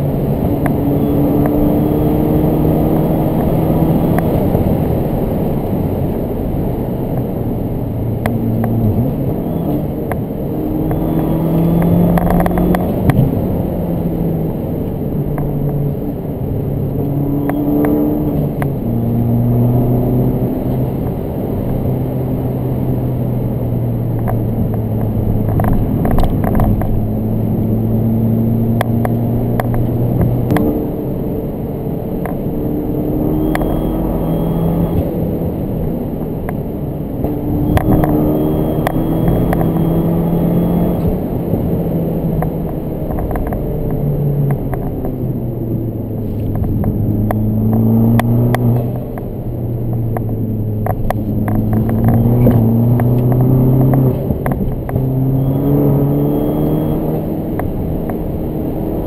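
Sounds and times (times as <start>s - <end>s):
car engine revving: 0.0s - 59.0s
tyre and road noise: 0.0s - 59.0s.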